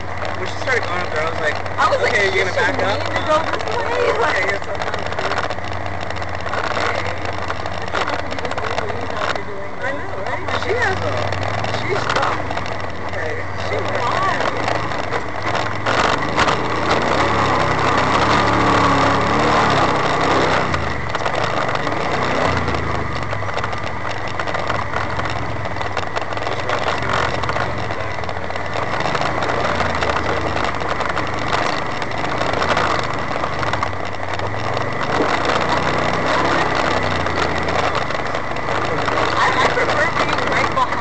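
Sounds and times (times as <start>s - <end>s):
utility vehicle engine running: 0.0s - 41.0s.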